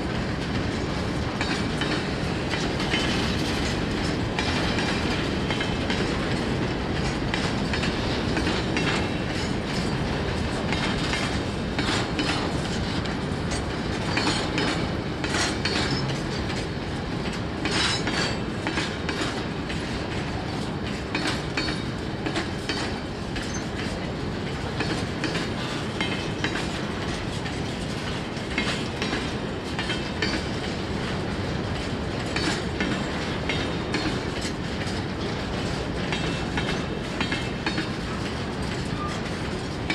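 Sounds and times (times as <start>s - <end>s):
wheels clicking over rail joints: 0.0s - 39.9s.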